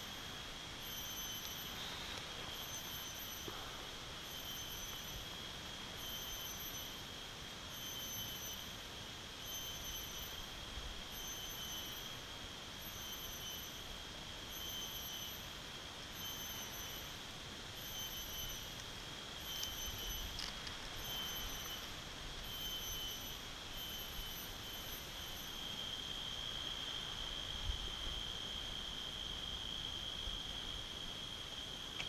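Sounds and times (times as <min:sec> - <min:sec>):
insects calling shrilly: 0:00.0 - 0:32.0.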